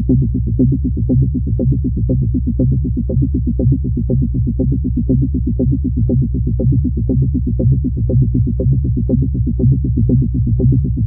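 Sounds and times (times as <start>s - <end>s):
muffled electronic party bass: 0.0s - 11.0s.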